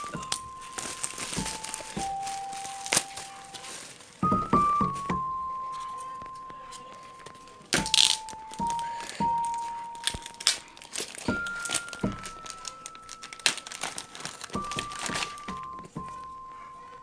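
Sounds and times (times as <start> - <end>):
plastic packaging crinkling: 0.0 - 17.0
plastic ripping: 0.0 - 17.0
slow held music notes: 0.0 - 17.0.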